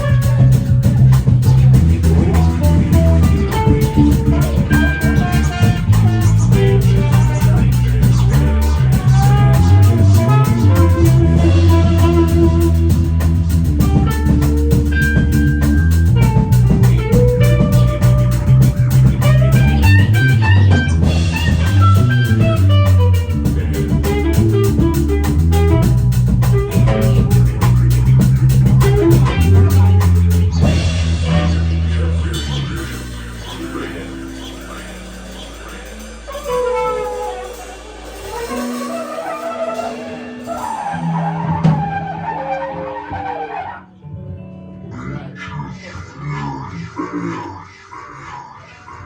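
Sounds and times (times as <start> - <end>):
drum kit steady beat: 0.0 - 31.8, 32.4 - 42.0
electric guitar melody: 0.0 - 45.8
bass guitar: 0.0 - 47.7.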